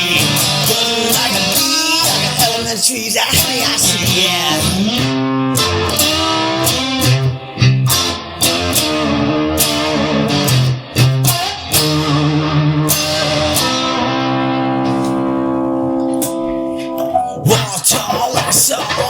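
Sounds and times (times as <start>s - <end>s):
blues-rock electric guitar: 0.0s - 19.0s.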